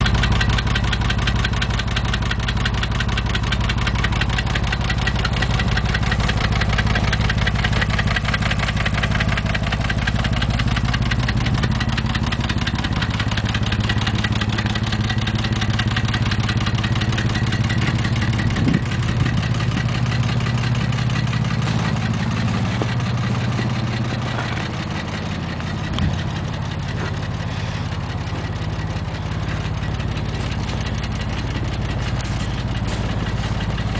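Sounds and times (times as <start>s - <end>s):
car engine idling with knocking: 0.0s - 33.9s.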